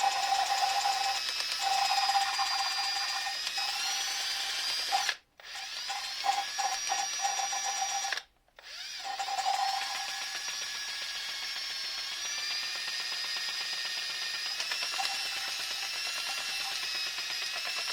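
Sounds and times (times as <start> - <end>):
electric drill motor whine: 0.0 - 17.9.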